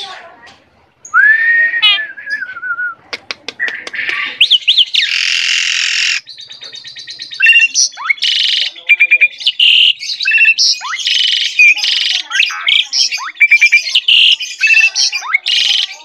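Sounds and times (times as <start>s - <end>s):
starling singing: 1.0s - 16.0s.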